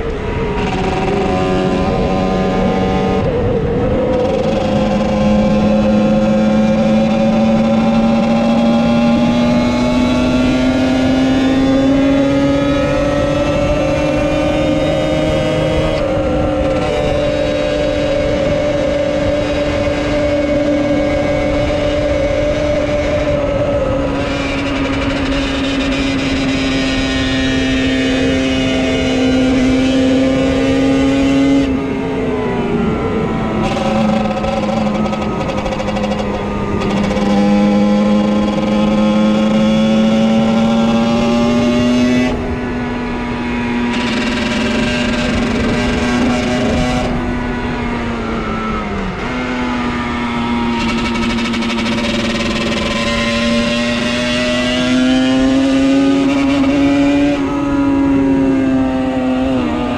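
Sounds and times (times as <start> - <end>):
motorcycle engine buzzing: 0.0 - 59.9.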